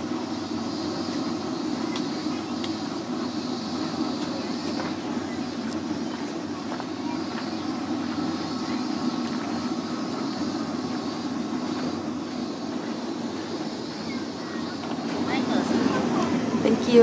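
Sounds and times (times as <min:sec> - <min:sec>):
low rumbling background din: 0:00.0 - 0:17.0.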